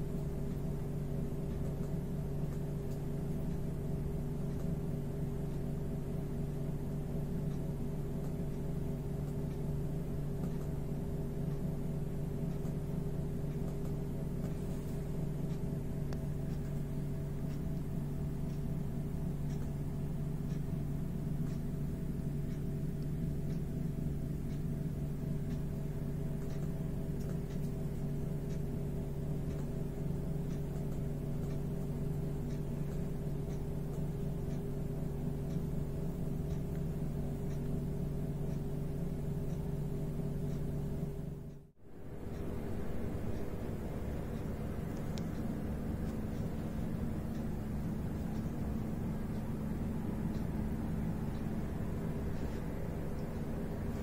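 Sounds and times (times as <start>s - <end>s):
steady machine hum: 0.0s - 54.0s
faint light ticks: 1.4s - 5.8s, 6.4s - 10.8s, 12.4s - 16.8s, 17.4s - 39.7s, 40.4s - 41.7s, 42.3s - 54.0s.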